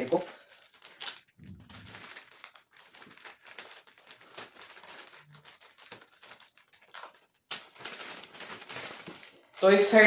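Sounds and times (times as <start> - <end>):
plastic sleeve crinkling: 0.0 - 10.0.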